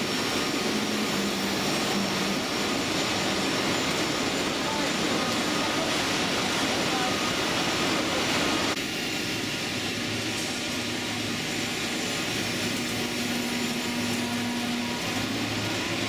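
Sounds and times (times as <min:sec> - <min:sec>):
train rushing noise: 0:00.0 - 0:16.0.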